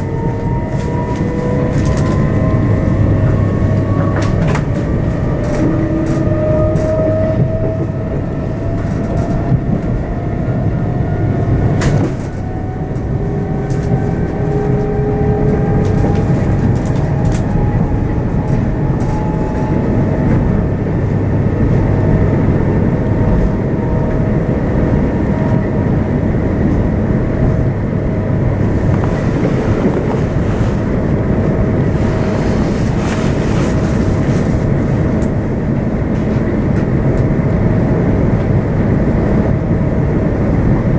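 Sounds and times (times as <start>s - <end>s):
electric train motor whine: 0.0s - 36.1s
wheels rumbling on rails: 0.0s - 40.9s.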